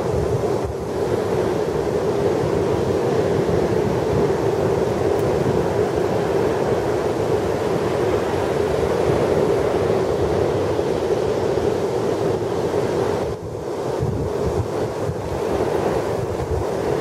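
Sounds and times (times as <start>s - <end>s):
heavy surf pounding beach: 0.0s - 17.0s
wind buffeting microphone: 0.0s - 17.0s.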